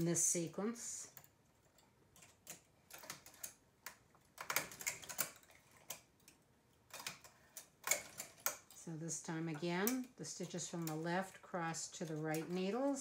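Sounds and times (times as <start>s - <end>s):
metal tools clicking on needles: 1.0s - 13.0s.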